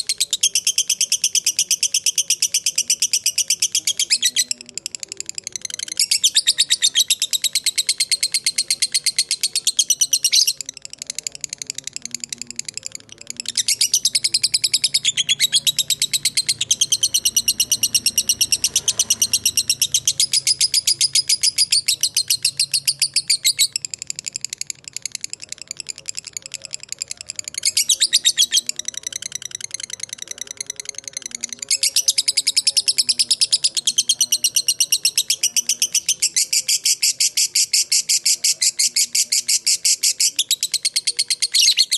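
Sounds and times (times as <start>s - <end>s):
lovebird rapid high chattering: 0.0s - 41.9s.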